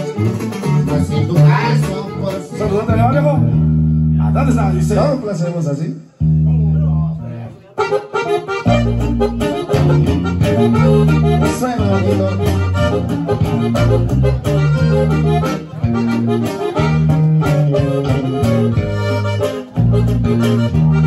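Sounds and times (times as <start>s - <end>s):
accordion melody: 0.0s - 4.9s, 7.8s - 21.0s
electric bass line: 0.0s - 5.2s, 6.2s - 7.5s, 8.6s - 21.0s.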